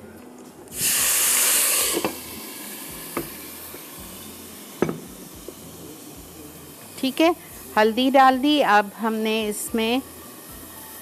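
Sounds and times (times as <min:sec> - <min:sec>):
water sizzling in hot oil: 0:00.7 - 0:11.0.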